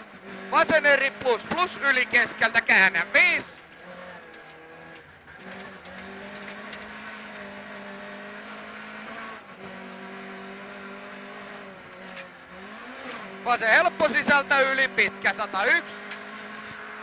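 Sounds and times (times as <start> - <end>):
car engine at high revs: 0.0 - 17.0
gravel and road noise: 0.0 - 17.0.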